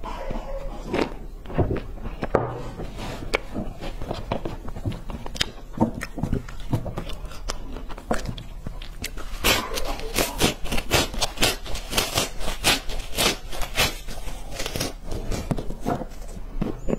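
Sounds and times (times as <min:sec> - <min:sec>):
crumbly stick snacks handled: 0:03.2 - 0:16.9.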